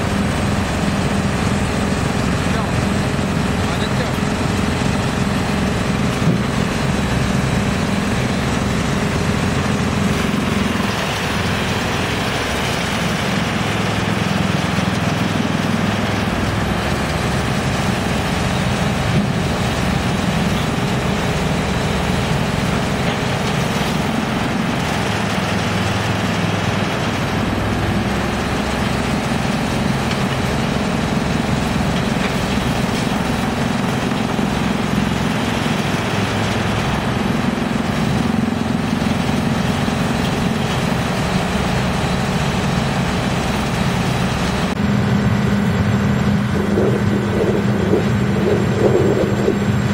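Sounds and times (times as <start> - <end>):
excavator engine: 0.0 - 49.9
wood chipper humming: 0.0 - 49.9.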